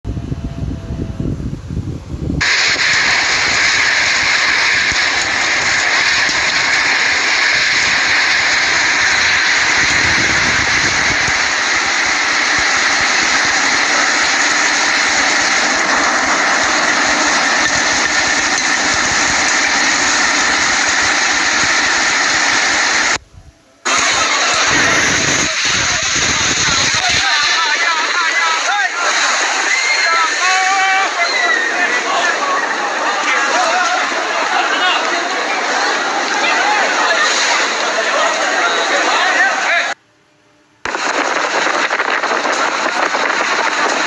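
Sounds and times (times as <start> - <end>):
heavy rain pouring: 2.4 - 23.2, 23.8 - 40.0, 41.3 - 44.0.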